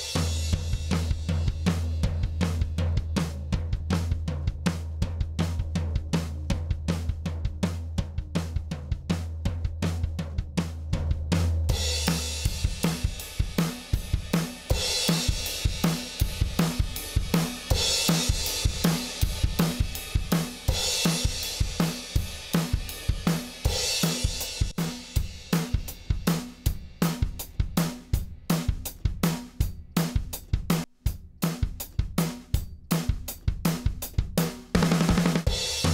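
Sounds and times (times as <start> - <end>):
drum kit beat: 0.0 - 35.9.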